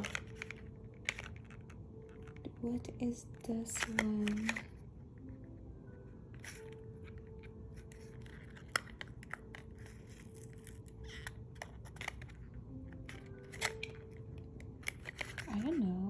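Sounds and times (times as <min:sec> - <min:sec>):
packaging rustling and clicking: 0:00.0 - 0:16.0.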